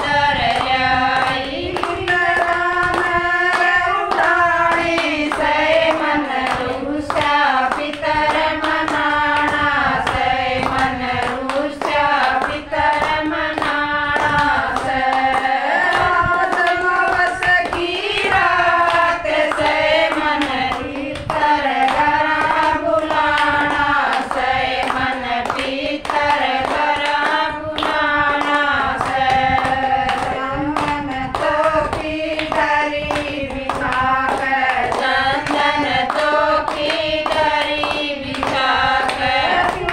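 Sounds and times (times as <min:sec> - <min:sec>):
steady hand claps: 0:00.0 - 0:39.9
women singing devotional song: 0:00.0 - 0:39.9.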